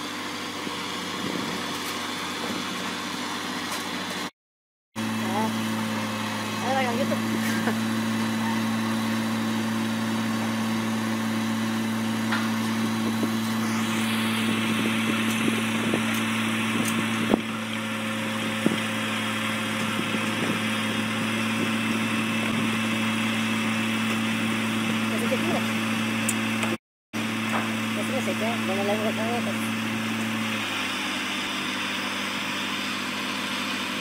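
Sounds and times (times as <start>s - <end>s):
diesel engine running: 0.0s - 4.3s, 5.0s - 34.0s.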